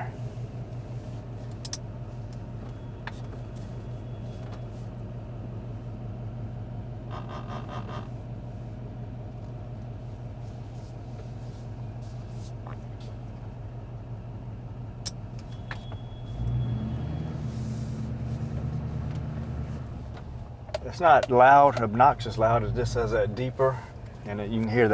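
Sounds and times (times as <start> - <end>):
diesel truck exhaust drone: 0.0 - 24.9.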